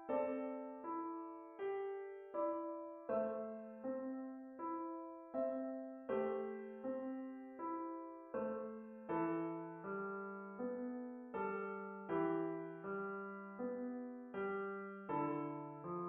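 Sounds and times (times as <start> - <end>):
piano playing chords: 0.0 - 16.0.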